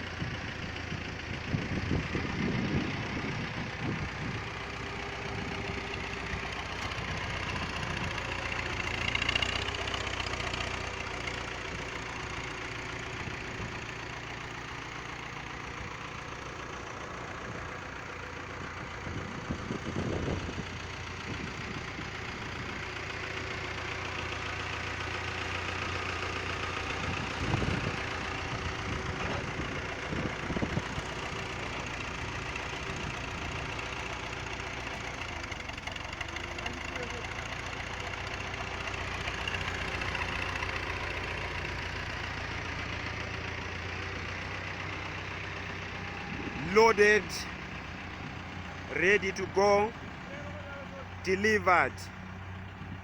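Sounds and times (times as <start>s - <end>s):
forklift engine running: 0.0s - 53.0s.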